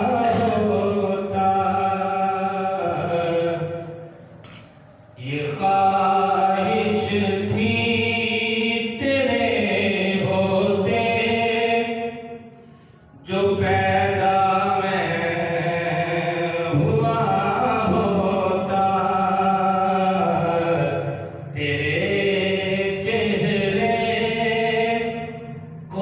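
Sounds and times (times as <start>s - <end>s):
man singing into a microphone: 0.0s - 4.1s, 5.2s - 12.4s, 13.1s - 26.0s.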